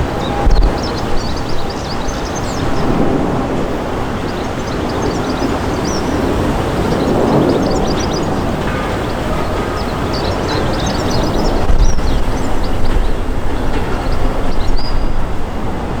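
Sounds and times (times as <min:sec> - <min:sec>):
birds chirping: 0:00.0 - 0:16.0
train rumbling past: 0:00.0 - 0:16.0.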